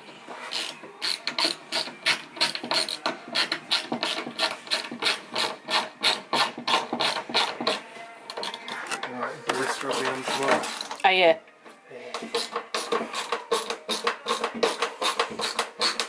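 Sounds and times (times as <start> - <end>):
hand tool screwing strokes: 0.3 - 11.0, 12.2 - 16.0.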